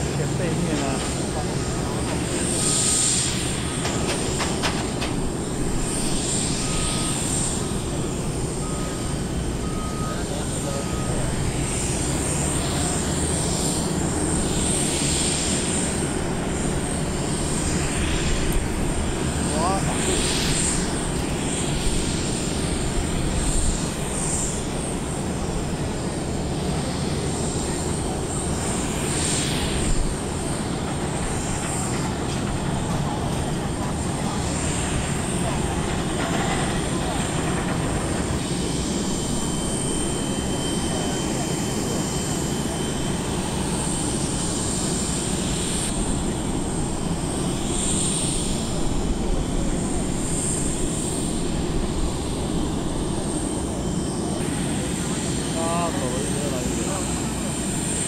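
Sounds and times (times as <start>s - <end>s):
jet aircraft whine: 0.0s - 58.0s.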